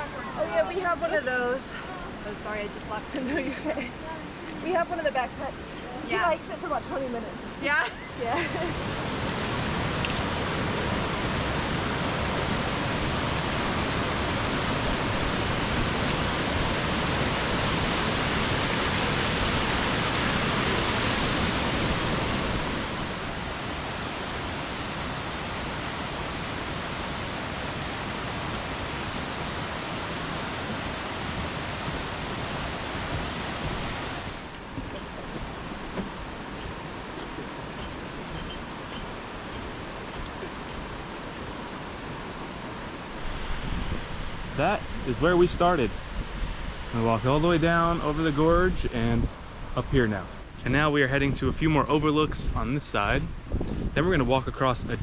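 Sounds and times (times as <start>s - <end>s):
waterfall roaring: 0.0s - 54.5s.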